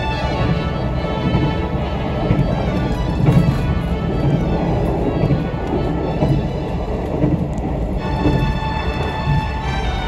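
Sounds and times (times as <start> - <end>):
background music: 0.0 - 10.0
low rumble: 0.0 - 10.0.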